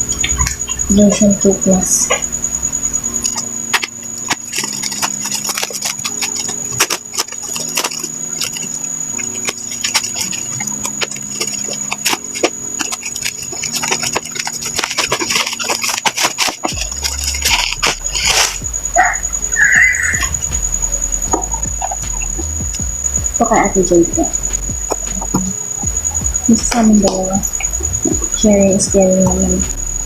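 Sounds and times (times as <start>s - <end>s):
plastic packaging crackling: 0.1s - 25.9s.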